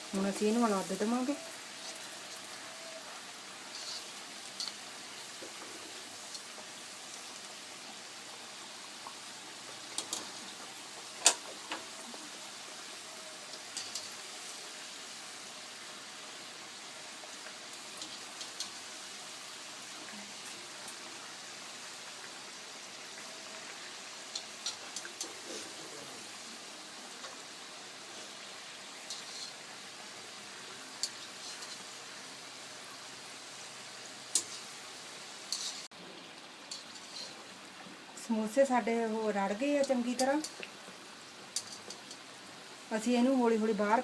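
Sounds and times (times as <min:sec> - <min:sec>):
deep-frying sizzle: 0:00.0 - 0:44.0.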